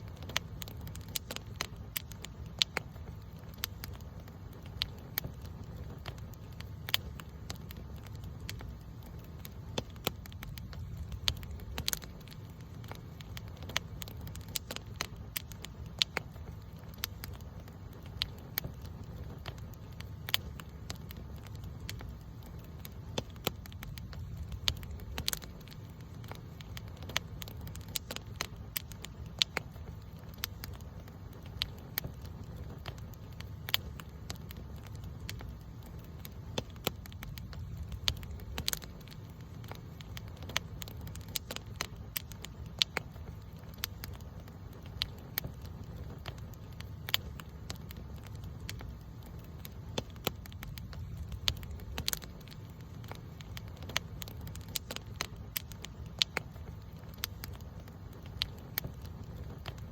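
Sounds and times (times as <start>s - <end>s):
burning wood popping and snapping: 0.0s - 59.9s
low rumble of flames: 0.0s - 59.9s.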